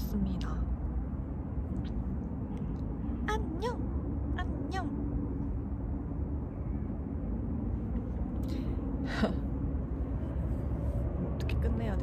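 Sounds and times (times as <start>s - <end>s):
faint steady hum: 0.0s - 12.0s
low city background rumble: 0.0s - 12.0s.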